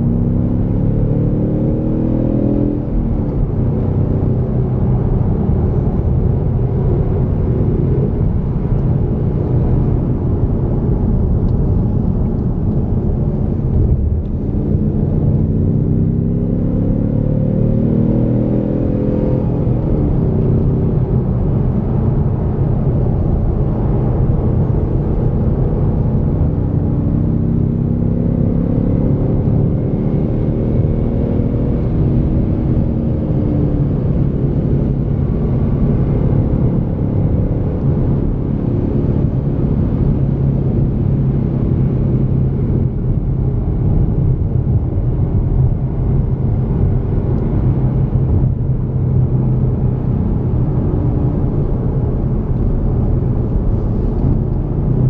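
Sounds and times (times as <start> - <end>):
car engine drone from cabin: 0.0 - 55.0
road rumble: 0.0 - 55.0.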